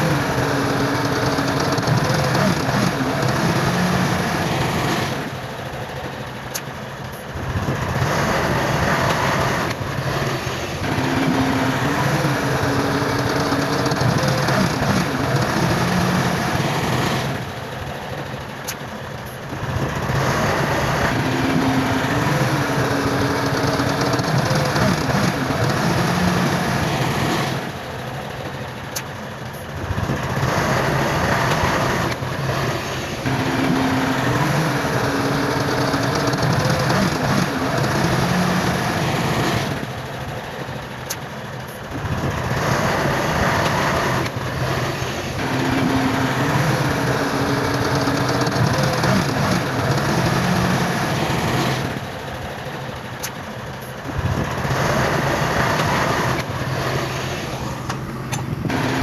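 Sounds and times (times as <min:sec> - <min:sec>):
heavy diesel machinery working: 0:00.0 - 0:59.0.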